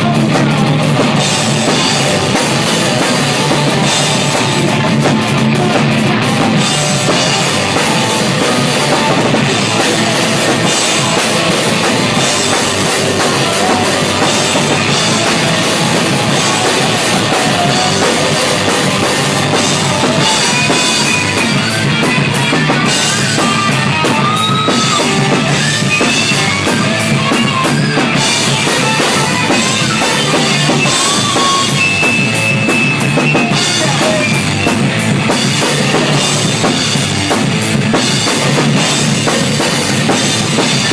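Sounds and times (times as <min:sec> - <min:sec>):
drum kit: 0:00.0 - 0:40.9
guitar: 0:00.0 - 0:40.9
rock band playing: 0:00.0 - 0:40.9.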